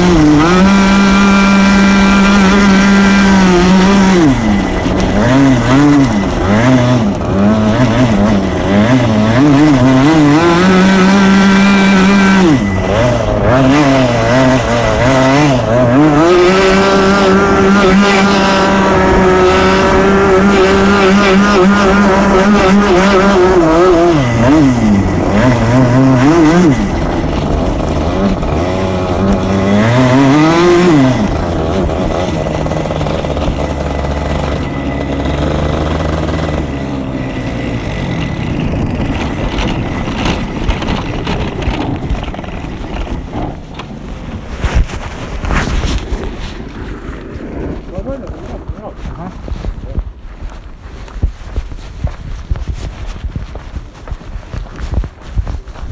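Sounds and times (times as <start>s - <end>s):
kart engine revving: 0.0s - 55.9s.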